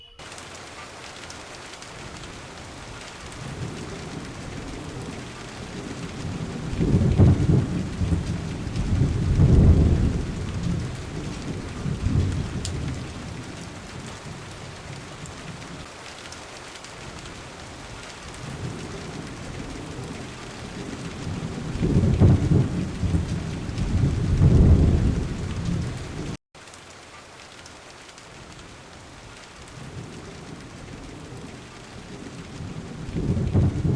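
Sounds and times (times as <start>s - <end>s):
heavy rain hissing: 0.0s - 33.9s
rolling thunder: 2.0s - 15.8s, 17.0s - 26.4s, 29.7s - 33.9s.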